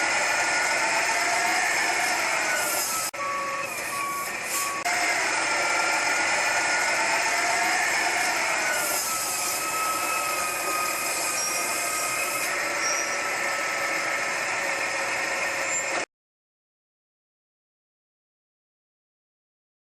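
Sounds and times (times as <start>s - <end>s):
garbage truck engine whining: 0.0s - 16.1s.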